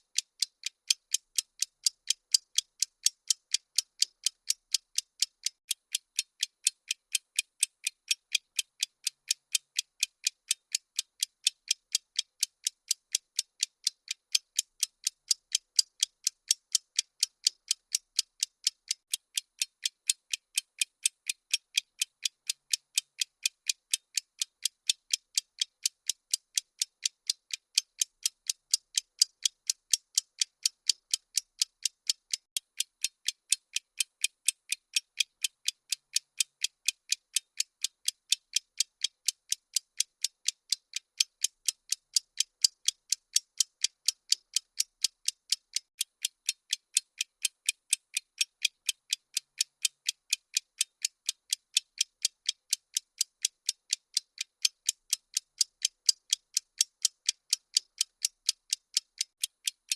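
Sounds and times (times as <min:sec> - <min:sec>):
clock-like timer ticking: 0:00.0 - 0:59.9.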